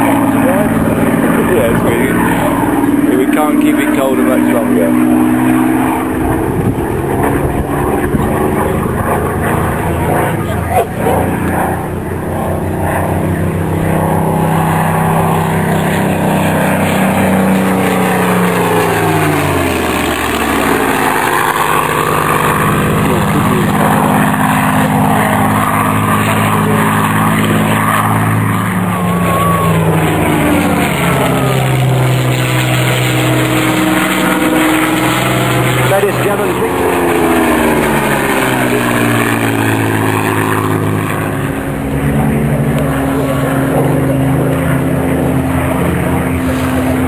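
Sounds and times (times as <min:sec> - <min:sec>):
propeller aircraft droning: 0:00.0 - 0:47.0.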